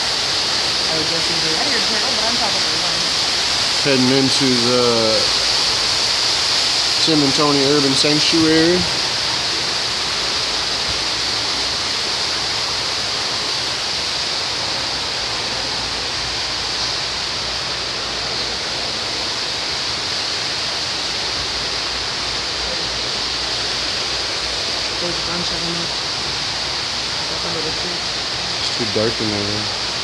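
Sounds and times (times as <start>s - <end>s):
steady rushing hiss: 0.0s - 30.0s.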